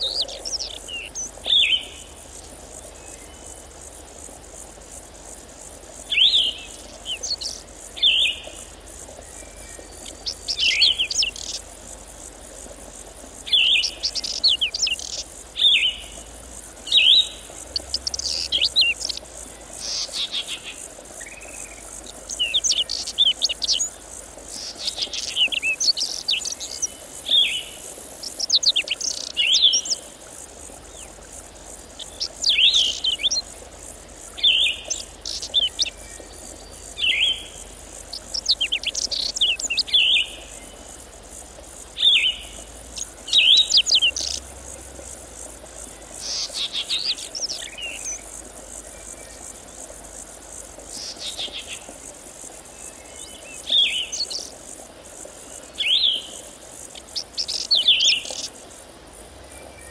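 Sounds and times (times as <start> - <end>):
songbirds singing: 0.0 - 54.6, 55.2 - 58.6
insects chirring: 0.0 - 59.9.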